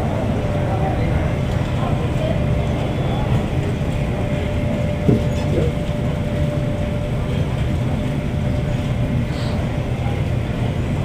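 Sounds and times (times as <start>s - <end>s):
low airport rumble: 0.0s - 11.0s.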